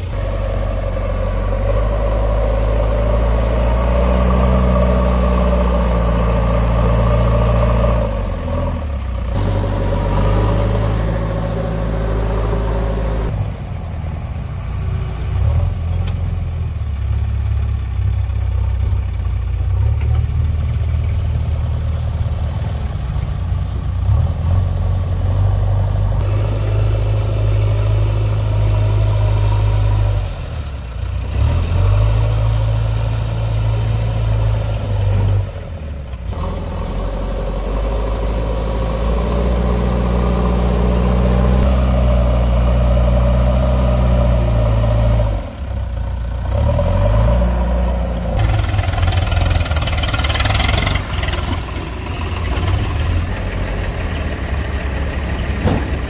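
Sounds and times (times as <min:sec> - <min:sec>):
diesel engine of backhoe running: 0:00.0 - 0:56.0.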